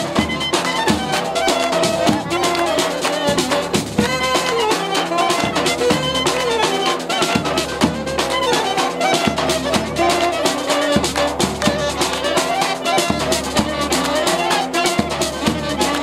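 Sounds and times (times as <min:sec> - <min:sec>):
brass: 0:00.0 - 0:16.0
clarinet: 0:00.0 - 0:16.0
drum beat: 0:00.0 - 0:16.0
saxophone: 0:00.0 - 0:16.0.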